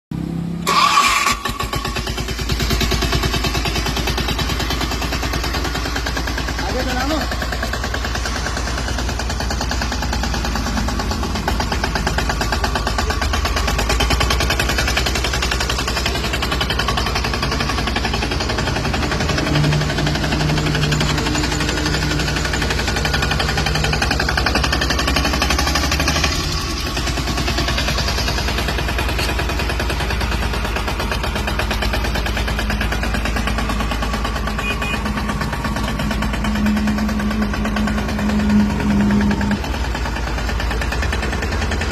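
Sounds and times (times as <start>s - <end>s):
tractor engine running: 0.1s - 41.9s.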